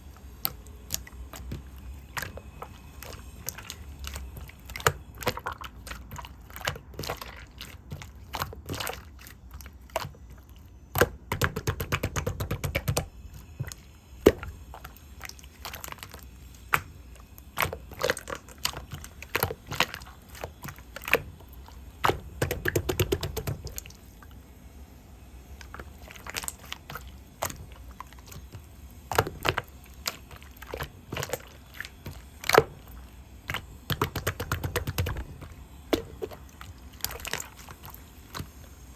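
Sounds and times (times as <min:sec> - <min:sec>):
hands squeezing slime: 0:00.0 - 0:24.4, 0:25.6 - 0:38.9.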